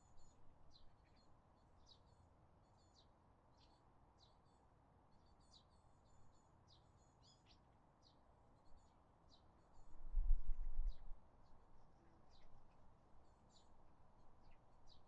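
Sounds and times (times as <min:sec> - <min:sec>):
small birds chirping: 0:00.0 - 0:09.9, 0:10.8 - 0:15.0.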